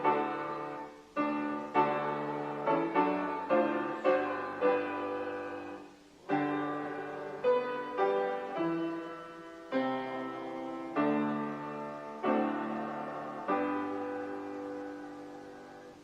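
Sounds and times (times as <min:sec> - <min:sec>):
piano playing hymn chords: 0:00.0 - 0:16.0.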